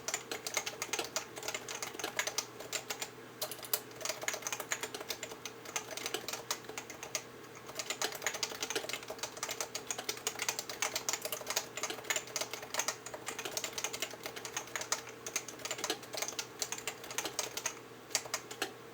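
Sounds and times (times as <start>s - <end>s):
keyboard typing: 0.0s - 18.7s.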